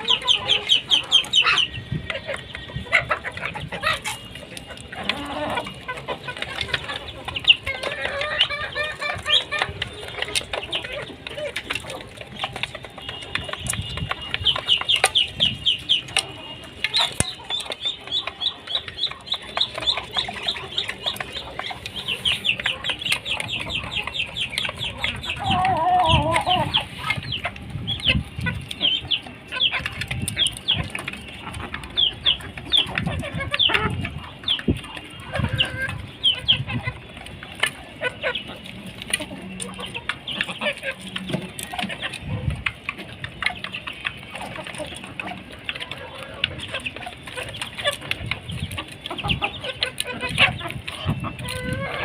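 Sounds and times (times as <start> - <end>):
poultry peeping: 0.0 - 52.0.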